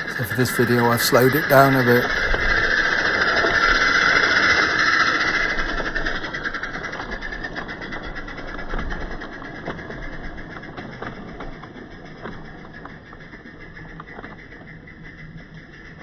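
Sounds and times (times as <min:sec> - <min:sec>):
steam locomotive exhaust beats: 0:00.0 - 0:16.0
wagons rolling on track: 0:00.0 - 0:16.0.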